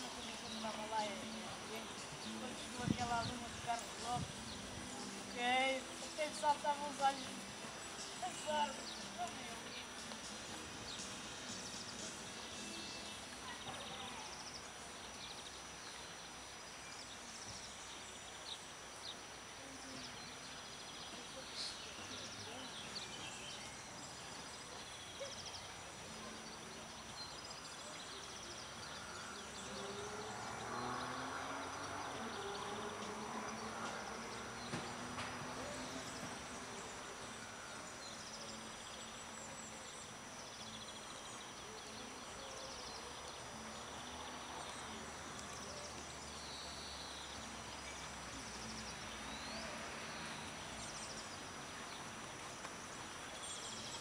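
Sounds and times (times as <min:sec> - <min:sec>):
faint distant voices: 0:00.0 - 0:54.0
small birds chirping: 0:00.0 - 0:54.0
steady background hiss: 0:00.0 - 0:54.0.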